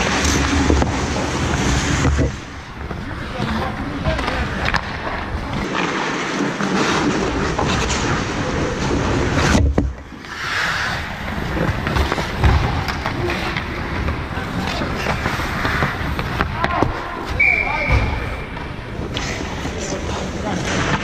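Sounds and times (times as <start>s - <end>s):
skate blades scraping ice: 0.0s - 21.0s.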